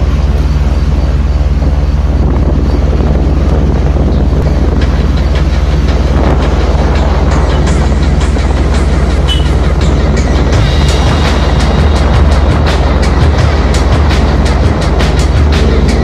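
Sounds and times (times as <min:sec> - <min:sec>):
motorbike engine drone: 0:00.0 - 0:16.0
wind buffeting microphone: 0:00.0 - 0:16.0.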